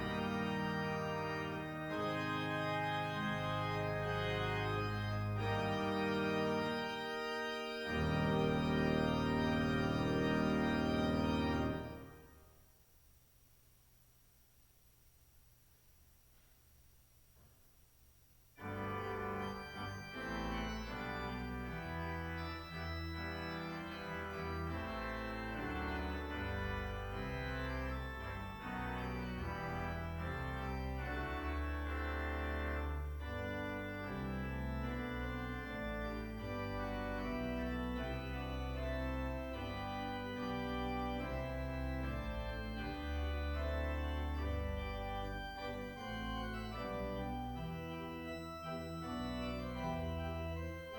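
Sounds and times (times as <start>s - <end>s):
organ playing chords: 0.0s - 12.4s, 18.6s - 50.9s.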